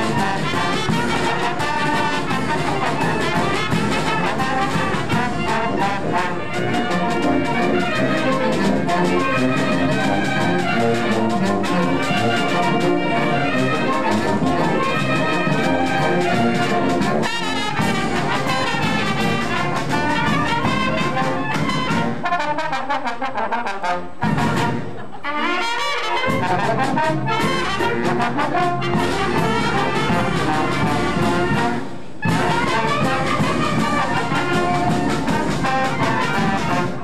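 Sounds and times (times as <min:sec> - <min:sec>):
steady percussion: 0:00.0 - 0:23.2, 0:24.2 - 0:25.0, 0:26.0 - 0:37.0
brass band playing: 0:00.0 - 0:37.0.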